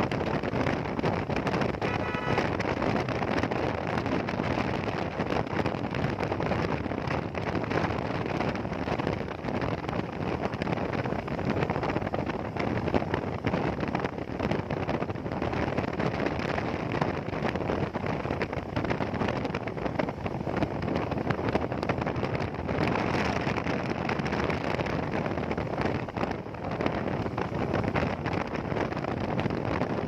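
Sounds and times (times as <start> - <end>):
motorcycle running: 0.0 - 30.0
wind buffeting microphone: 0.0 - 30.0.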